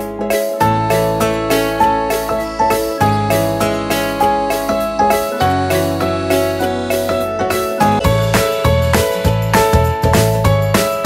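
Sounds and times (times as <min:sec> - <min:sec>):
bright keyboard tune: 0:00.0 - 0:11.0
low beat: 0:00.6 - 0:10.6.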